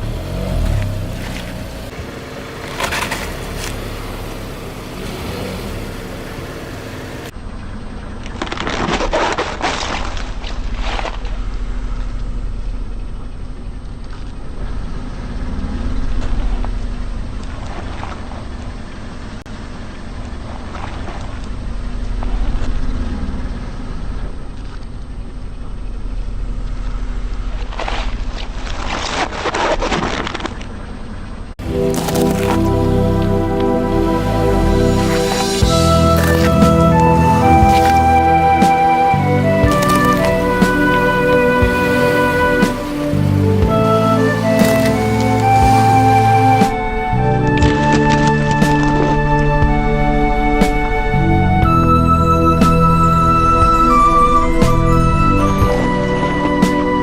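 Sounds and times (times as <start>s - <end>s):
car rolling slowly: 0.0s - 8.8s, 10.3s - 29.7s, 30.4s - 57.0s.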